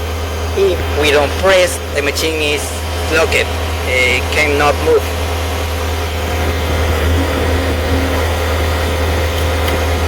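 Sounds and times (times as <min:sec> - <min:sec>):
loader engine idling: 0:00.0 - 0:10.0.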